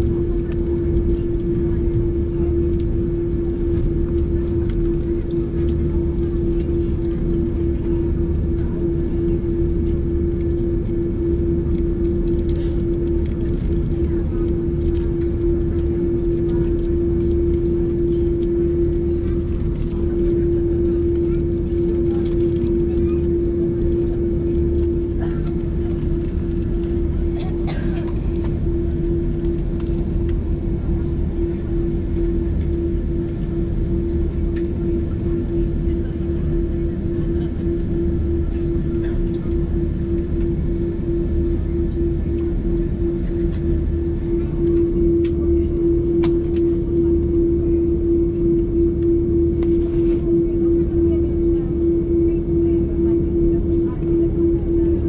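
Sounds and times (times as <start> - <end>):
airliner cabin engine rumble: 0.0 - 55.0
constant humming tone: 0.0 - 55.0.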